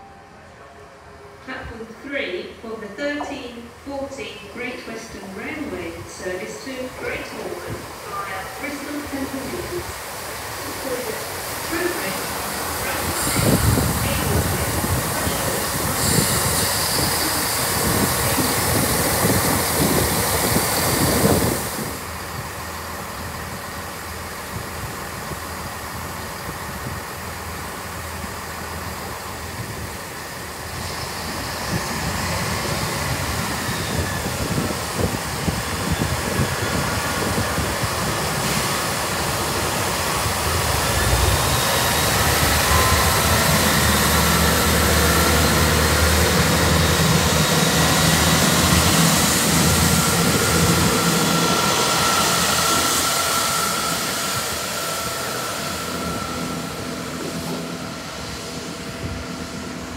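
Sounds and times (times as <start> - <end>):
train engine whine and rumble: 0.0 - 59.9
train passing close by: 0.0 - 59.9.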